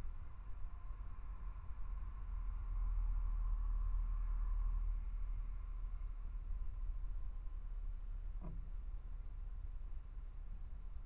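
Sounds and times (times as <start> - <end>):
faint background rumble: 0.0 - 11.0.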